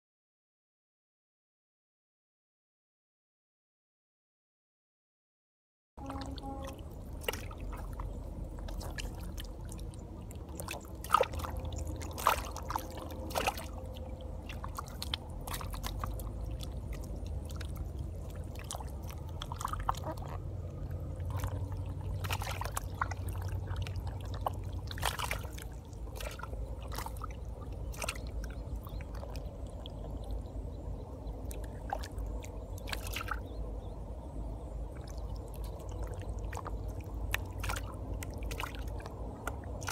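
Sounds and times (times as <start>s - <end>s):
fish squelching and splashing in mud: 6.0s - 33.8s, 34.8s - 39.9s
low steady rumble: 6.0s - 39.9s.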